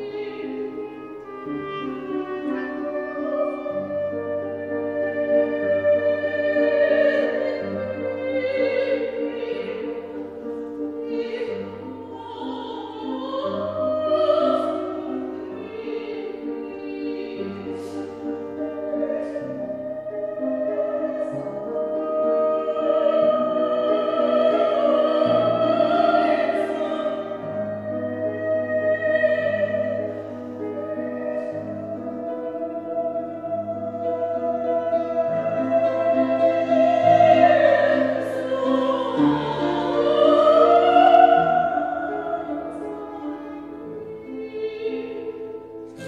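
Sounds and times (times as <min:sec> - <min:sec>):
soprano singing with vibrato: 0:00.0 - 0:46.0.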